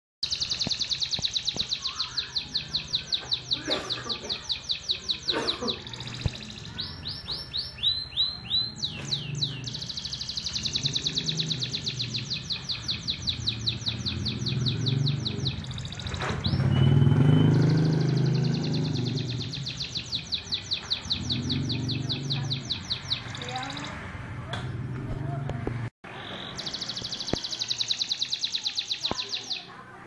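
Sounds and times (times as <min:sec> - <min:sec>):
canary singing trills: 0:00.2 - 0:24.1, 0:26.1 - 0:30.0.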